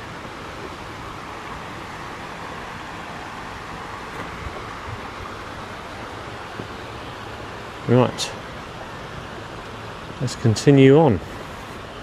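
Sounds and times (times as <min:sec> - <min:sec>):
mountain stream water rushing: 0:00.0 - 0:12.0.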